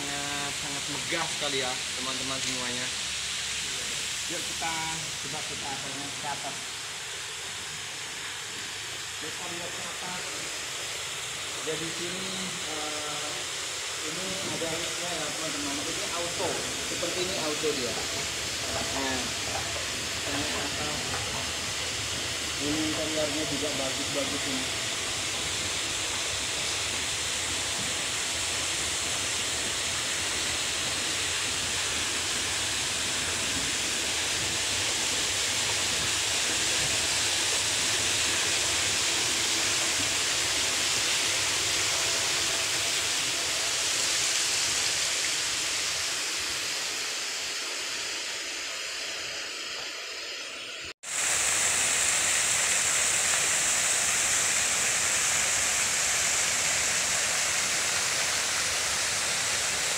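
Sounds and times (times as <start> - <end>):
steady rushing hiss: 0.0 - 59.9.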